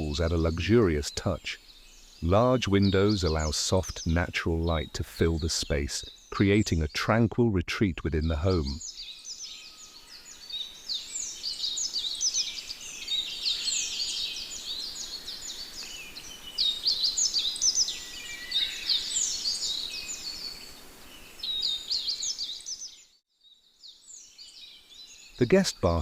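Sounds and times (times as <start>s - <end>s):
faint steady hiss: 0.0s - 23.0s, 23.9s - 26.0s
small birds chirping and singing: 0.0s - 26.0s.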